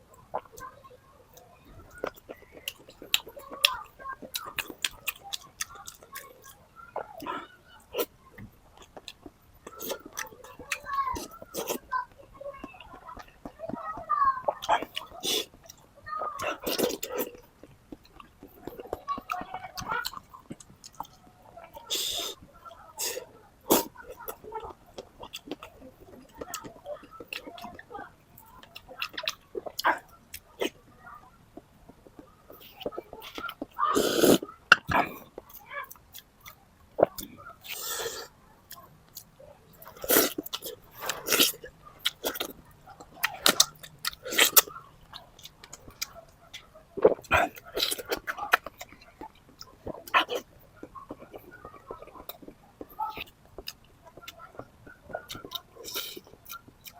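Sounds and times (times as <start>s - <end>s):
chewing with wet mouth smacks: 1.4s - 11.9s, 12.5s - 56.9s.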